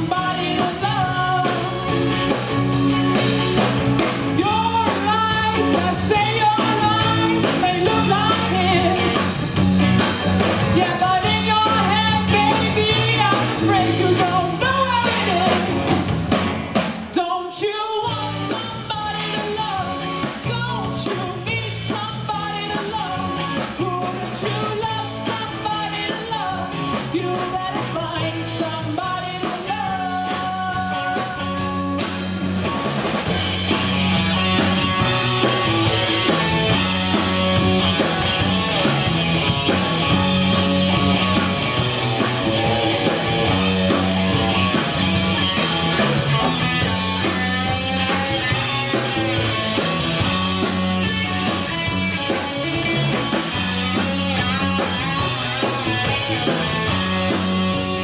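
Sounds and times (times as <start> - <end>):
distorted electric guitar: 0.0 - 17.1, 18.0 - 58.0
rock music with bass and drums: 0.0 - 58.0.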